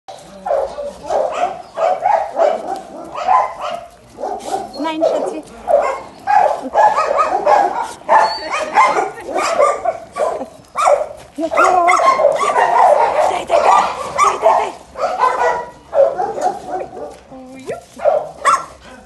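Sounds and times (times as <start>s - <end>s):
dogs barking and yipping: 0.1s - 19.0s.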